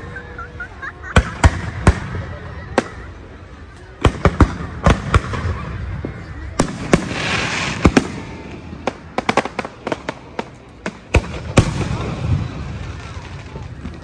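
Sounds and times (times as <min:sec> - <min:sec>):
fireworks bursting with bangs: 0:00.0 - 0:14.0.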